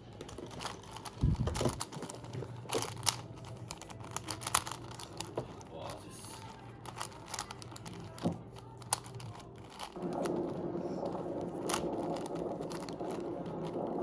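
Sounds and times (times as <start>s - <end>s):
plastic puzzle cube layers clicking: 0.0s - 14.0s.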